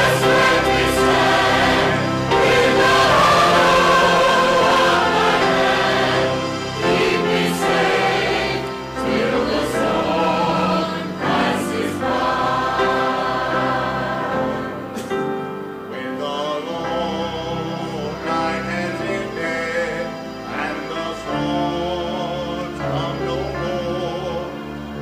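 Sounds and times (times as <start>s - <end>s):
church choir singing gospel: 0.0s - 25.0s.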